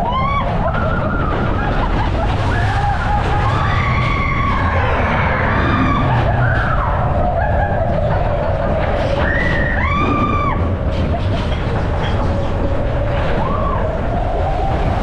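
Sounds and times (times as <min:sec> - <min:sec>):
coaster car rumble: 0:00.0 - 0:15.0.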